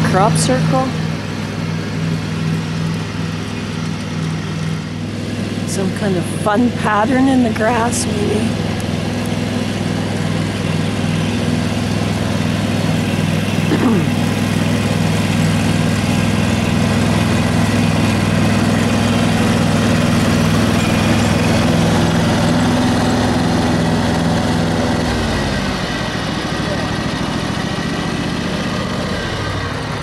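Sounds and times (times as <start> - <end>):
riding mower engine running: 0.0 - 30.0.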